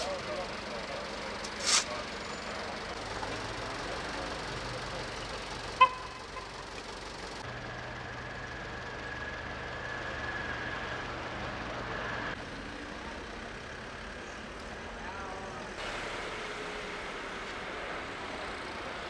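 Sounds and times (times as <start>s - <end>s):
low engine hum: 0.0s - 19.0s
street traffic noise: 0.0s - 19.0s.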